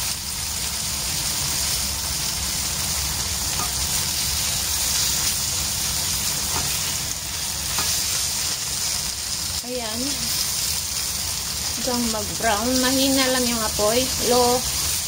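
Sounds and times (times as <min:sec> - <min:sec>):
tofu sizzling in oil: 0:00.0 - 0:15.0.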